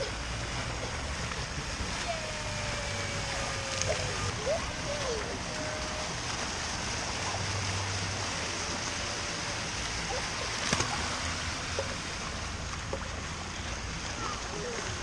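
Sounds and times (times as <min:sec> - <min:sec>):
water splashing in a pool: 0:00.0 - 0:15.0.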